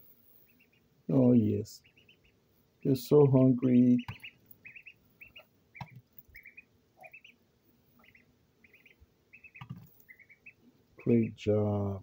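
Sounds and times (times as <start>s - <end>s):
duckling peeping: 0.3s - 11.4s.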